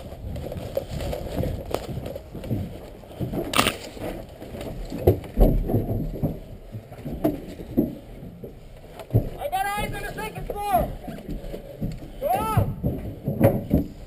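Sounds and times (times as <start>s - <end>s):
footsteps on wood: 0.0s - 14.0s
gear bumping wooden walls: 0.0s - 14.0s.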